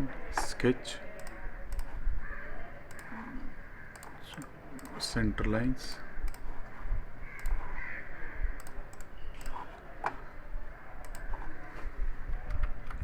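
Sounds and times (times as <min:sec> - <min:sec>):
computer mouse clicking: 0:00.4 - 0:10.2, 0:11.0 - 0:11.6.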